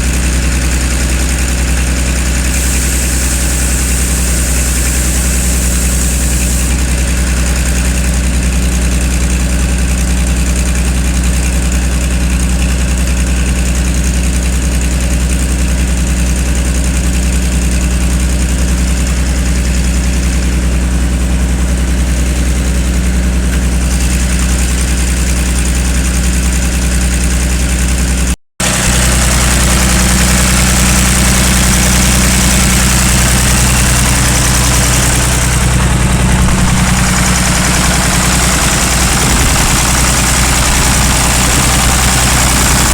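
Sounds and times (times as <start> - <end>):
tractor engine idling: 0.0 - 42.9.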